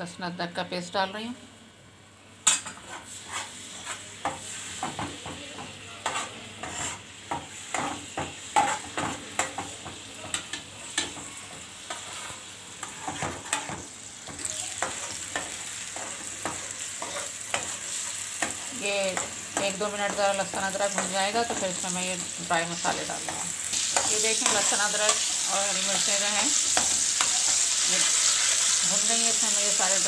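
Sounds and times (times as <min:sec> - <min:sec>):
paste sizzling in hot oil: 0:02.8 - 0:05.1, 0:06.0 - 0:09.7, 0:11.0 - 0:30.0.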